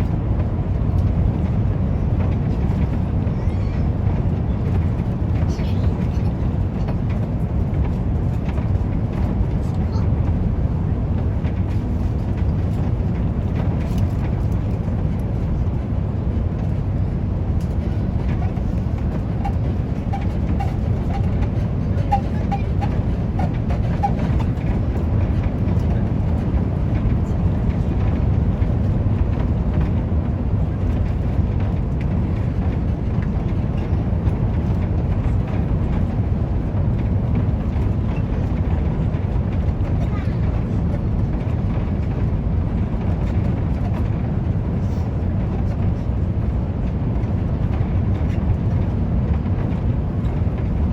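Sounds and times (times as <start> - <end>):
airliner cabin engine rumble: 0.0 - 50.9.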